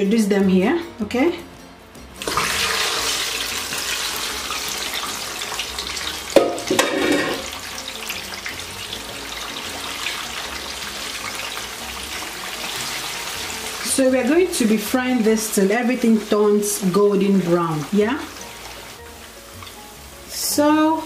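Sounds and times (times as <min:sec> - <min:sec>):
plantains sizzling in oil: 0:02.1 - 0:21.0.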